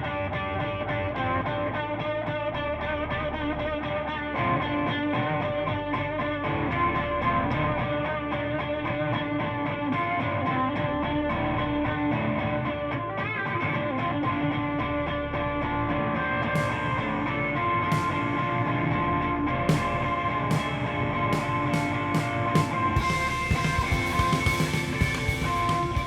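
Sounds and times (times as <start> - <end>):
guitar-led instrumental music: 0.0 - 26.0.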